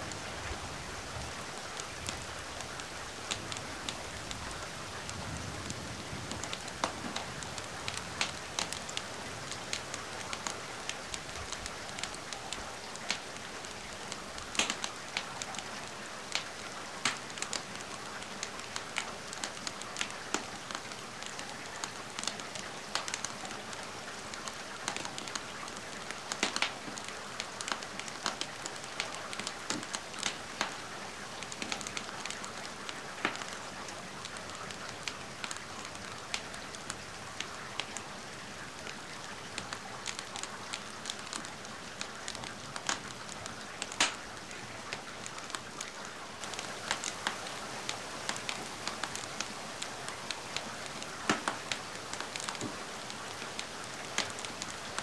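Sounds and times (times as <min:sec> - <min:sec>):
rain hiss: 0:00.0 - 0:55.0
wood fire crackling and popping: 0:05.6 - 0:38.0, 0:38.8 - 0:55.0.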